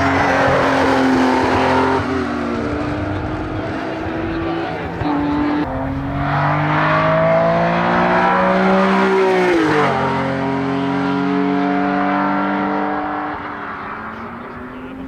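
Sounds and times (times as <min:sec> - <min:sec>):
racing car engine accelerating: 0:00.0 - 0:15.0.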